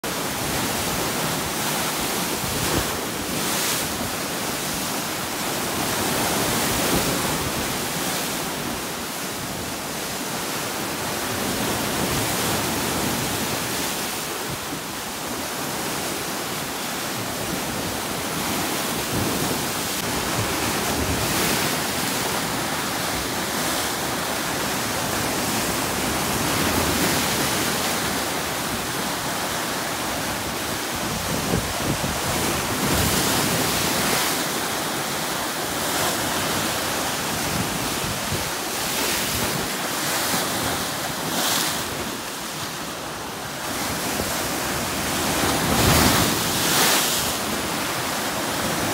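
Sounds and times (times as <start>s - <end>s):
waves surging against rocks: 0.0s - 48.9s.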